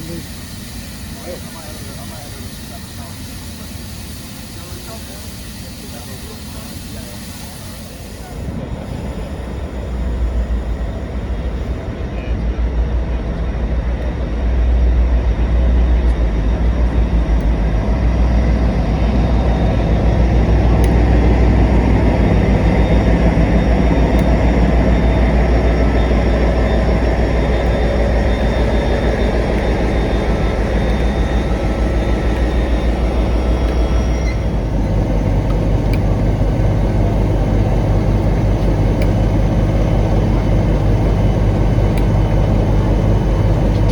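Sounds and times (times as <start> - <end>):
locomotive engine humming: 0.0 - 43.9.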